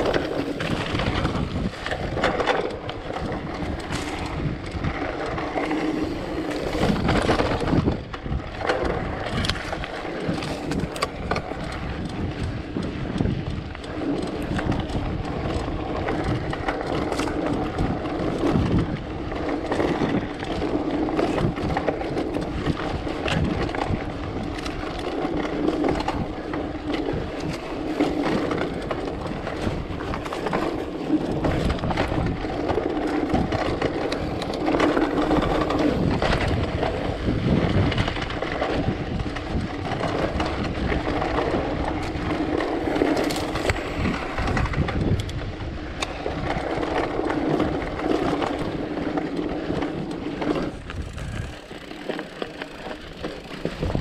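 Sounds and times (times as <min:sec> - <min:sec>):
bike knocks and rattles: 0:00.0 - 0:54.0
bike tyres rumbling on dirt and stones: 0:00.0 - 0:54.0.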